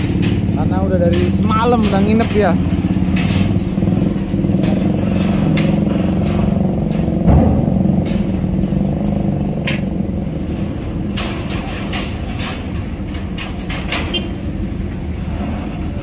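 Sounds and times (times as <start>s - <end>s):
sharp metallic clanks: 0.0s - 14.8s
diesel truck engine running: 0.0s - 16.0s.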